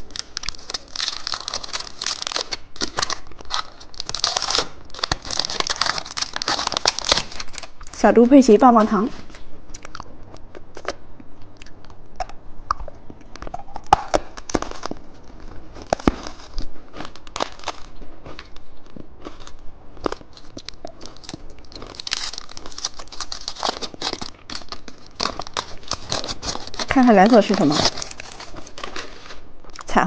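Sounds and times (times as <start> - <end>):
candy wrapper crinkling: 0.0 - 29.9.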